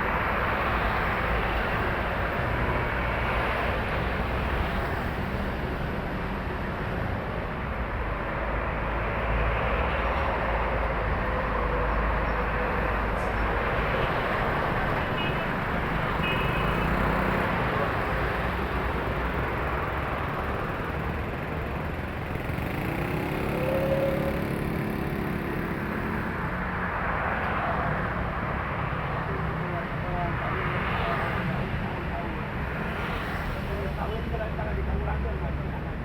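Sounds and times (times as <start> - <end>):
heavy road traffic passing: 0.0 - 36.0.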